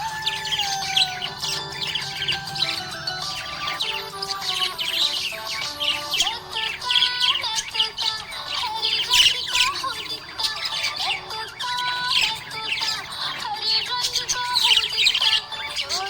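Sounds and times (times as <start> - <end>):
background music with held notes: 0.0 - 16.0
budgerigars chirping and squawking: 0.0 - 16.0.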